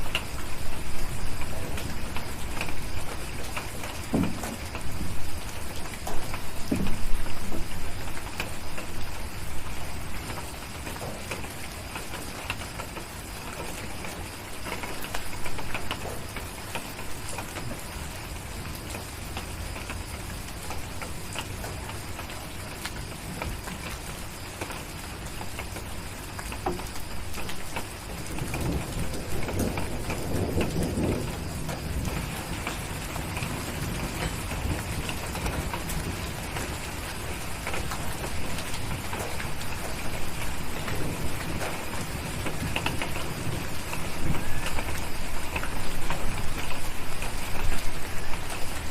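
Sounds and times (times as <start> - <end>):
low rumble of thunder: 0.0 - 26.0, 26.7 - 48.9
steady rain: 0.0 - 48.9.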